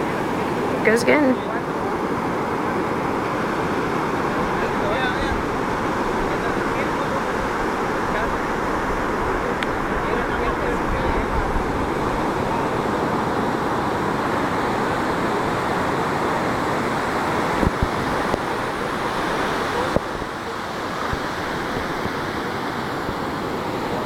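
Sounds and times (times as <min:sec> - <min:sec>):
ocean surf breaking on beach: 0:00.0 - 0:24.0.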